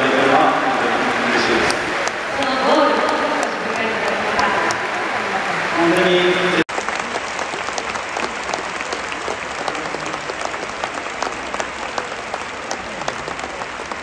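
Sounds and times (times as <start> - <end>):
stadium crowd applauding: 1.1 - 14.0.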